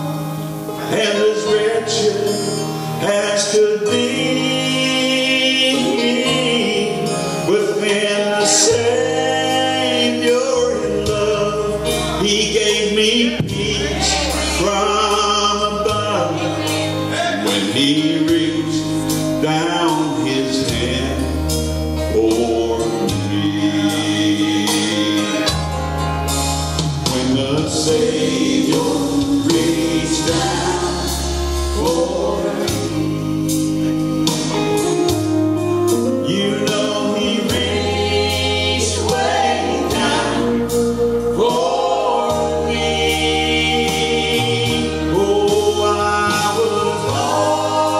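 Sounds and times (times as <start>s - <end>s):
gospel group singing: 0.0s - 47.9s
instrumental accompaniment: 0.0s - 47.9s.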